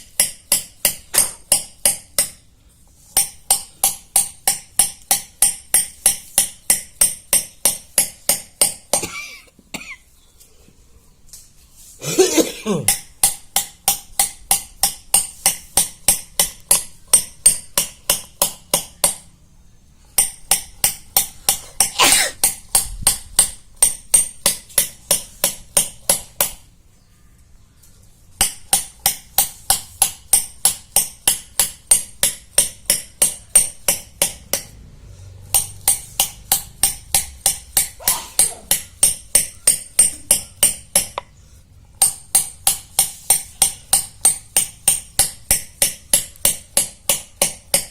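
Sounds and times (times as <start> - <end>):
hammer tapping metal chisel on stone: 0.0 - 2.4, 3.0 - 9.1, 12.9 - 19.3, 20.1 - 26.7, 28.4 - 34.8, 35.4 - 41.4, 42.0 - 47.9.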